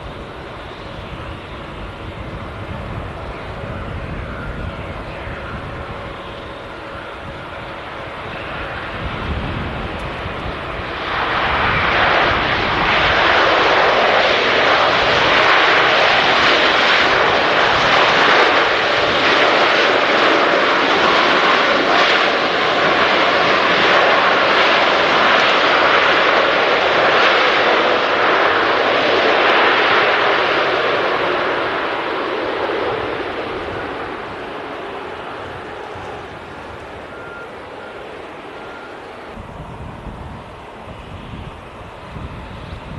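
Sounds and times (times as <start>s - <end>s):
jet airliner engines roaring: 0.0s - 42.9s.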